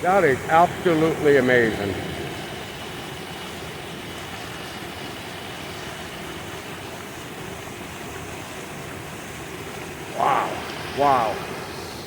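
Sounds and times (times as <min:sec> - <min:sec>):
rushing mountain stream and waterfall: 0:00.0 - 0:12.0.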